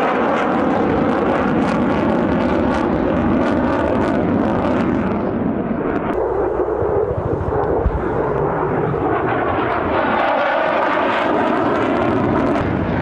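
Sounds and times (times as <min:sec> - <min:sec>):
jet flying past overhead: 0:00.0 - 0:13.0.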